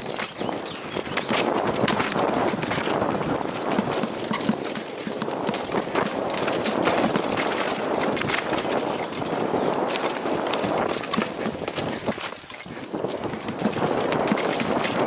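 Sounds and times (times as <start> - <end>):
bike rattling over rough ground: 0.0 - 15.0
tyres rushing over dirt: 0.0 - 15.0.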